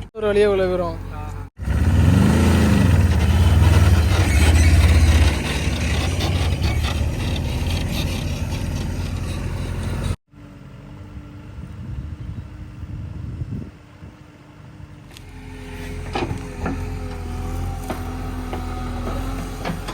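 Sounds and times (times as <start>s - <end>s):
diesel engine rumbling: 0.0s - 13.5s, 14.2s - 19.9s.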